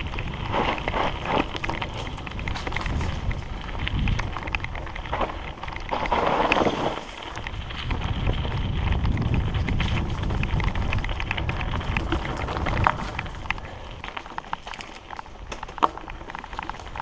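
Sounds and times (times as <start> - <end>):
wind rumble on microphone: 0.0 - 14.5
bike rattling over bumps: 0.0 - 17.0
bike tyres crackling over leaves: 0.0 - 17.0.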